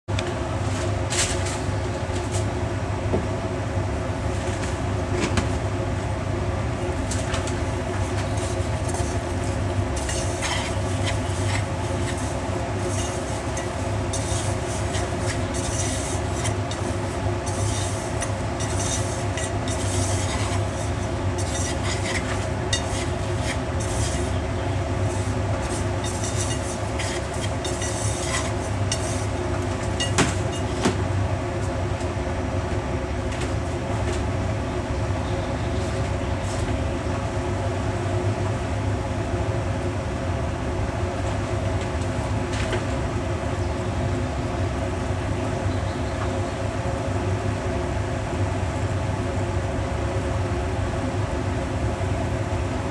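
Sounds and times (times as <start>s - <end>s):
stove whirring hum: 0.1s - 52.9s.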